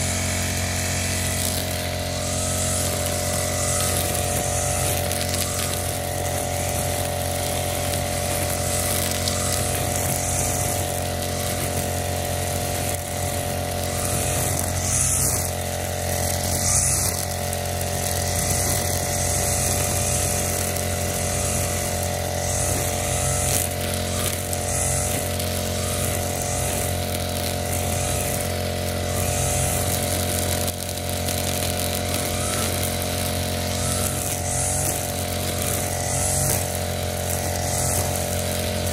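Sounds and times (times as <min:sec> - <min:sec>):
brush cutter engine running: 0:00.0 - 0:38.9
cutter swishing through grass: 0:00.0 - 0:38.9.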